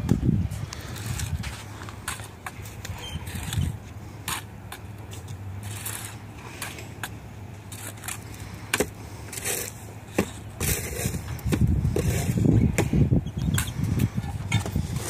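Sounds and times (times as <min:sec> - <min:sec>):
trowel scraping concrete blocks: 0:00.6 - 0:15.0.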